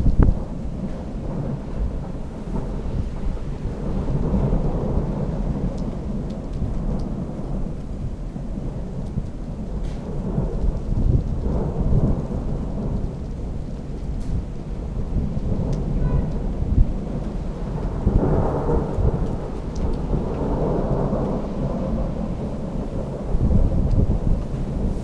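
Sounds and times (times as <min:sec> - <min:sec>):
thunder rumbling: 0:00.0 - 0:25.0.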